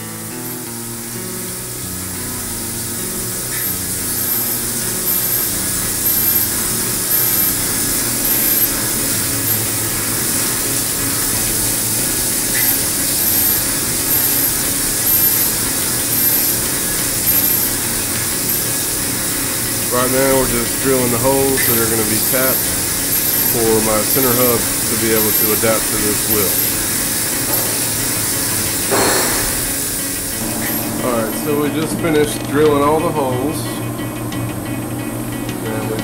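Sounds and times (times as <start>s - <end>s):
coolant spray hiss: 0.0s - 32.3s
regular machine pulse: 0.0s - 33.0s
mill spindle running: 0.0s - 36.0s.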